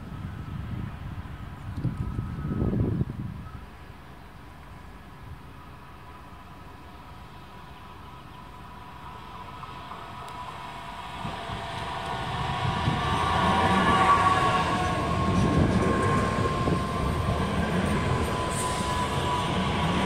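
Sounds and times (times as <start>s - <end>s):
electric train whine: 0.0s - 20.0s
wheels rumbling on rail: 0.0s - 20.0s.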